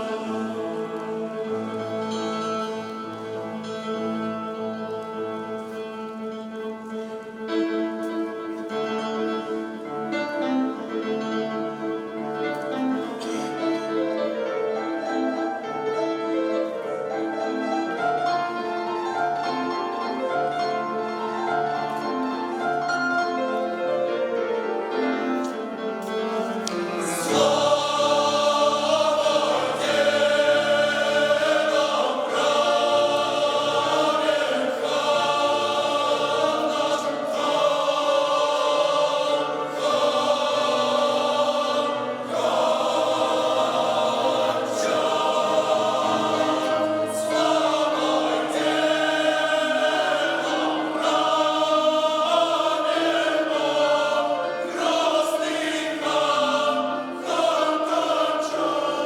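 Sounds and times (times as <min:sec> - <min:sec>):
choir singing: 0:00.0 - 0:59.0
instrumental accompaniment: 0:00.0 - 0:59.0.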